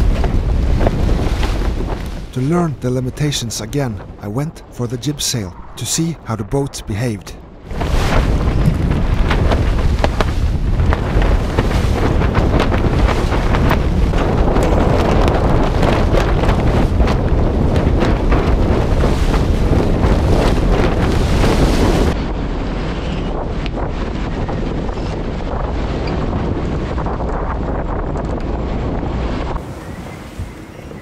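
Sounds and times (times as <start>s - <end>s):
water rushing along hull: 0.0s - 31.0s
wind buffeting microphone: 0.0s - 31.0s.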